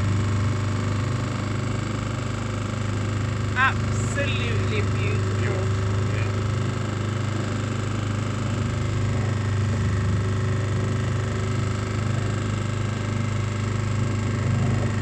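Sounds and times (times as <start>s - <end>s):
motor boat engine droning: 0.0s - 15.0s.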